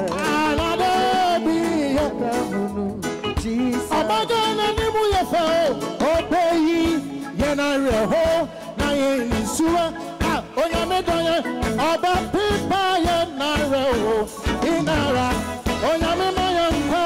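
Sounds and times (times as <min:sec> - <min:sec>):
live band playing: 0:00.0 - 0:17.0
man singing with wavering voice: 0:00.0 - 0:17.0.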